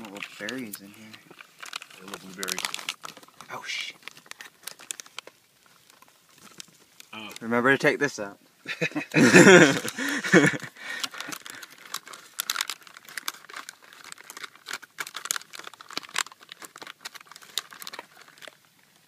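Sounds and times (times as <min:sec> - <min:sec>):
plastic pouch crinkling: 0:00.0 - 0:07.6, 0:09.2 - 0:19.0.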